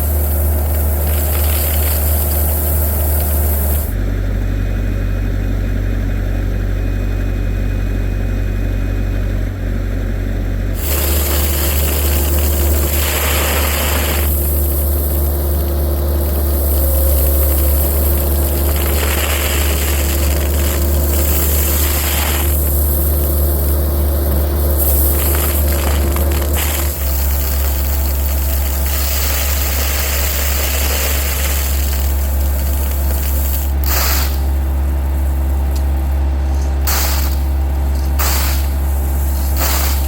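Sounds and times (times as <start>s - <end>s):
bursts of hiss: 0.0s - 4.0s, 10.8s - 40.0s
heavy engine deep rumble: 0.0s - 40.0s.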